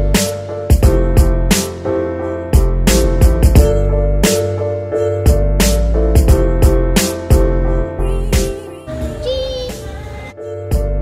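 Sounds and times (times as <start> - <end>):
background music with drums and bass: 0.0 - 11.0.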